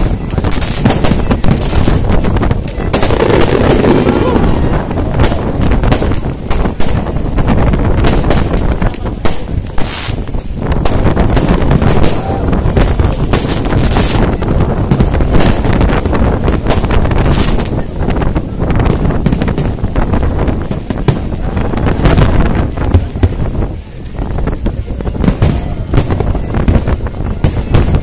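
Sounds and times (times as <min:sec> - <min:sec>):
fireworks bangs and crackles: 0:00.0 - 0:28.0
wind buffeting microphone: 0:00.0 - 0:28.0.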